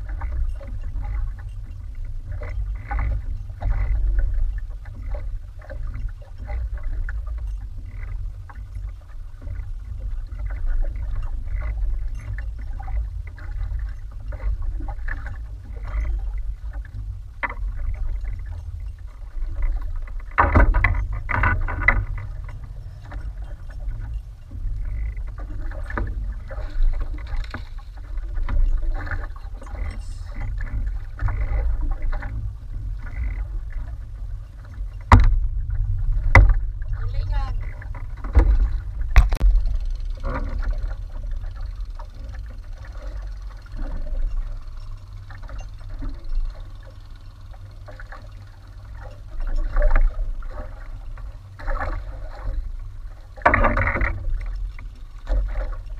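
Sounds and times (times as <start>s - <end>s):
steady low rumble: 0.0s - 55.9s
water lapping against boat hull: 0.0s - 55.9s.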